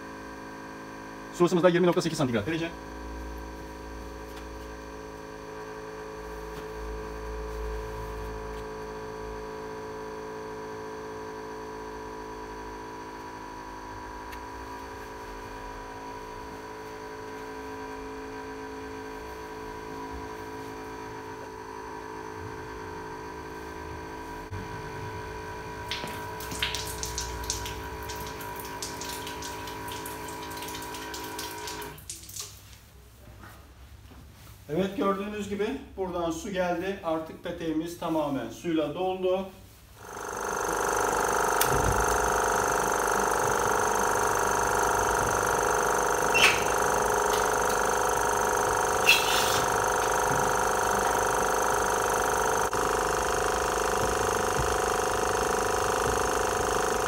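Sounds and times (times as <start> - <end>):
electric water pump humming: 0.0 - 32.8, 39.9 - 57.0.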